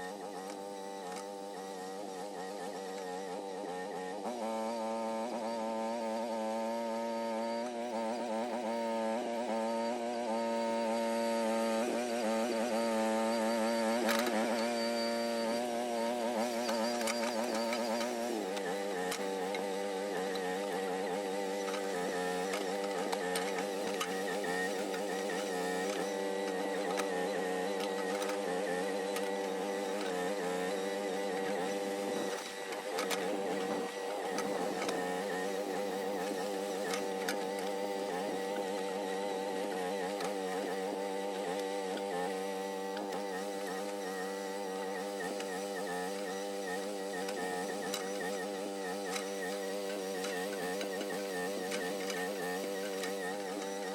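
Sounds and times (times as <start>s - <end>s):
mini excavator engine running: 0.0s - 53.9s.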